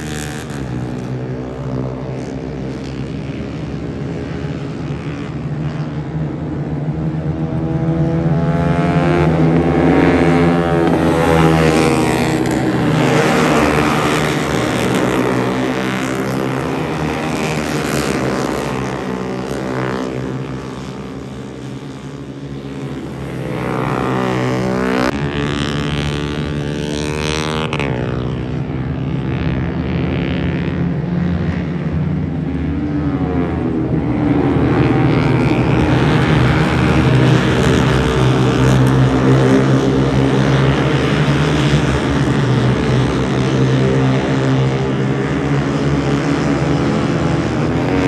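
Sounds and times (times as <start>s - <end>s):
racing motorcycles at high revs: 0.0s - 48.0s.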